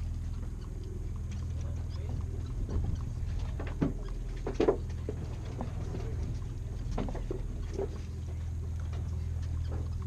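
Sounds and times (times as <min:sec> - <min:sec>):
boat machinery drone: 0:00.0 - 0:10.0.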